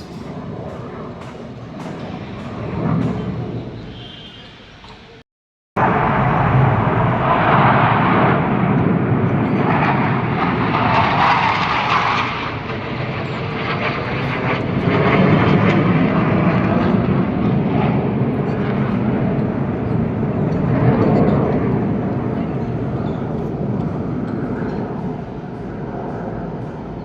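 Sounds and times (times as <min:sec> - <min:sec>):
jet aircraft flying overhead: 0:00.0 - 0:05.2, 0:05.8 - 0:27.0.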